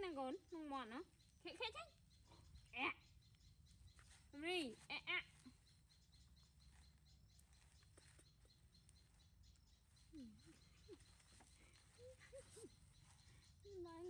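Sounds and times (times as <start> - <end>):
faint rapid chirping: 0.0 - 14.0
soft gliding calls: 0.2 - 14.0.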